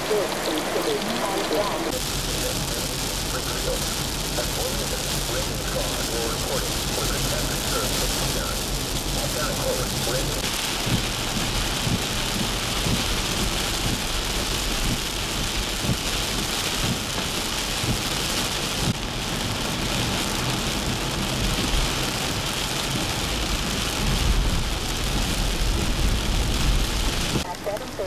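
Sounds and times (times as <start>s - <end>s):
car rumble on wet road: 0.0s - 28.0s
heavy rain on car windshield: 0.0s - 28.0s.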